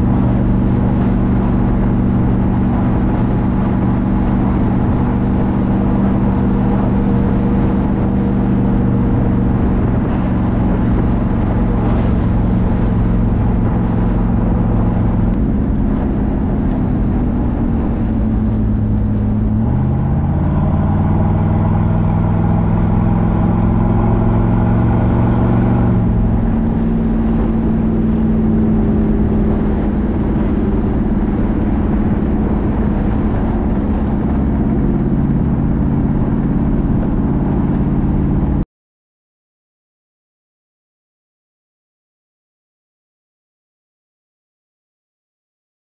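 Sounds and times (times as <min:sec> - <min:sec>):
car engine accelerating and cruising: 0:00.0 - 0:38.6.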